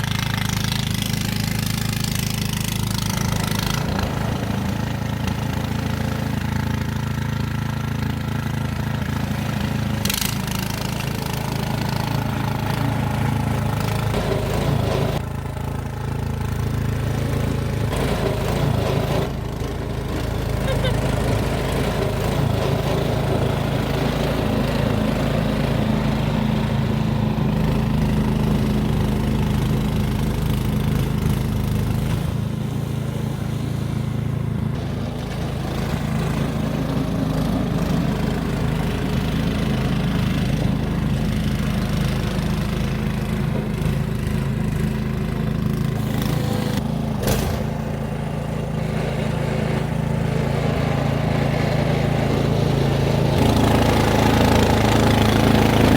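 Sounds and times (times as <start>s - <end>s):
snow blower engine running: 0.0s - 55.9s.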